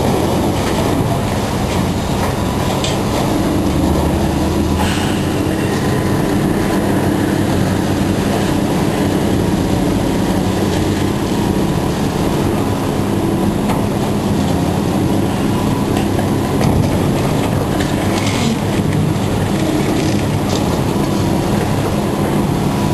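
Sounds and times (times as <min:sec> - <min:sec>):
machinery engine drone: 0:00.0 - 0:22.9.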